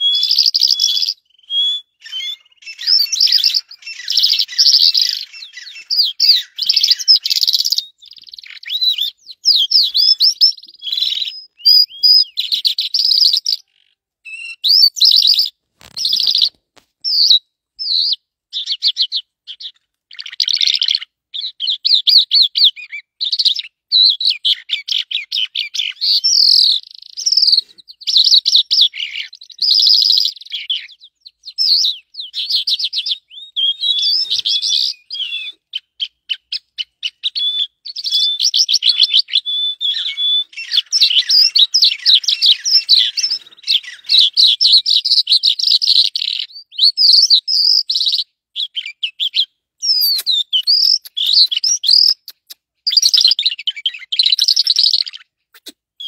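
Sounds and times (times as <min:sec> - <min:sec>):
bird chirping and trilling: 0:00.0 - 0:55.7.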